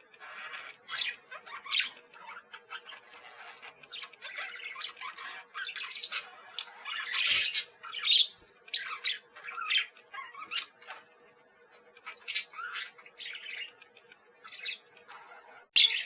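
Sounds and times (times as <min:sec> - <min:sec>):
budgies chirping and chattering: 0:00.0 - 0:16.0.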